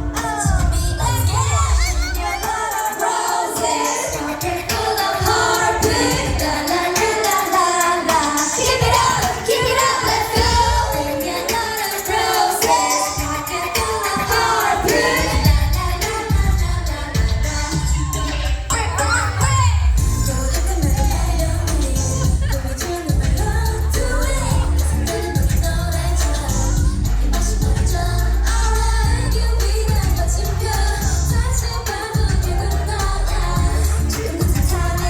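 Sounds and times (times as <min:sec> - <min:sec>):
pulsing bass beat: 0:00.0 - 0:02.8, 0:04.1 - 0:35.0
women singing dance-pop song: 0:00.0 - 0:35.0.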